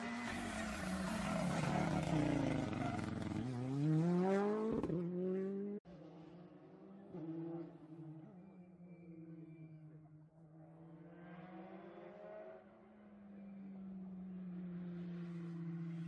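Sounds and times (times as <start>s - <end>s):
rally car accelerating past: 0.0s - 9.8s, 10.5s - 16.0s.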